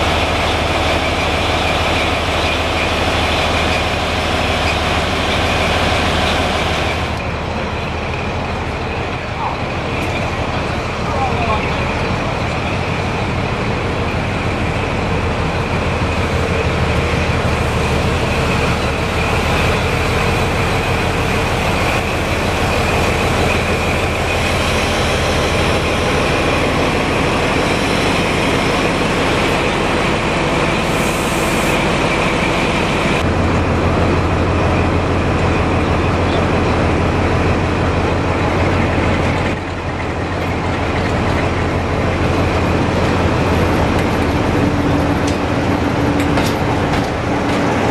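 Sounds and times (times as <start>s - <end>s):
diesel locomotive engine running: 0.0s - 47.9s
engine high whine: 0.0s - 47.9s.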